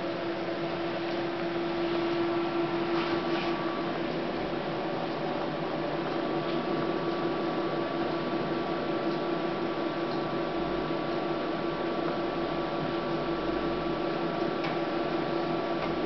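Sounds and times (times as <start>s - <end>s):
label printer humming: 0.0s - 16.0s.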